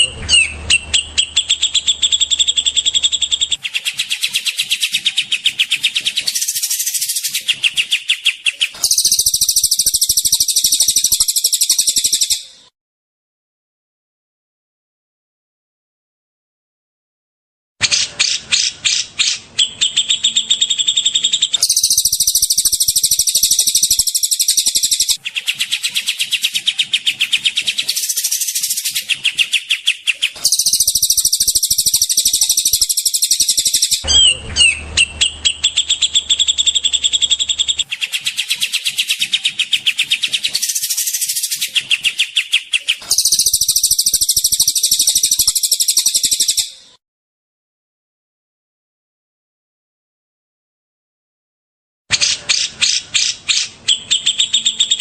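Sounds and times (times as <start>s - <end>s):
songbird trills and chattering: 0.0s - 12.6s, 18.2s - 46.8s, 52.1s - 55.0s.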